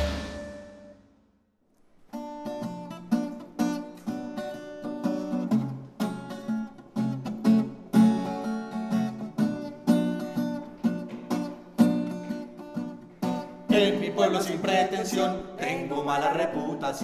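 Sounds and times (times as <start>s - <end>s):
acoustic guitar chords: 0.0s - 1.2s, 2.1s - 17.0s.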